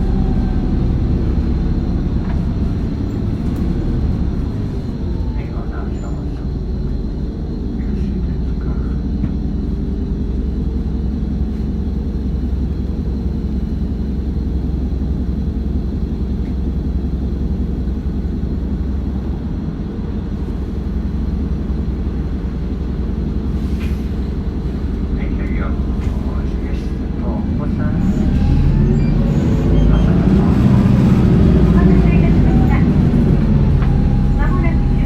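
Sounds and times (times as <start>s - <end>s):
bus engine rumble from inside: 0.0s - 35.0s.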